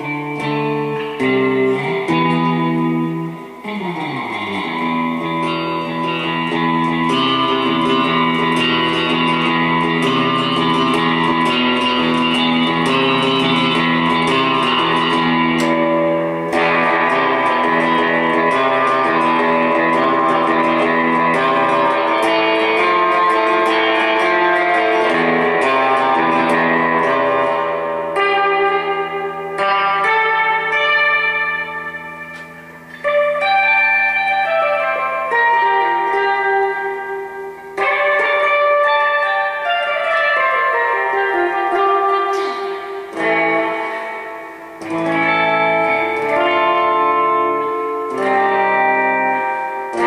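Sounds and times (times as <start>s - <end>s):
electric guitar through tube amp: 0.0s - 50.0s.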